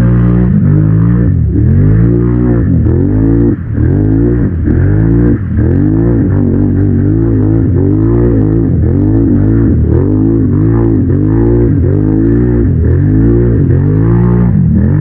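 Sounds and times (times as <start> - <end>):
quad bike engine revving: 0.0 - 15.0.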